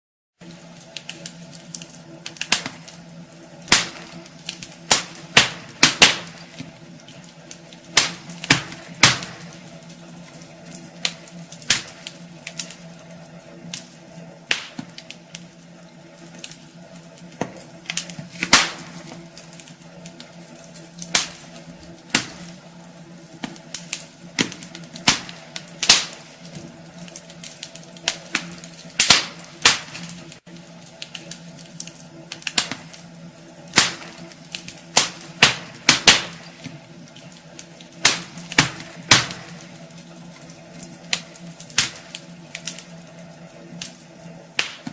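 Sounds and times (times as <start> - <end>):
steady low hum: 0.4 - 44.9
wood fire crackling and popping: 0.4 - 44.9.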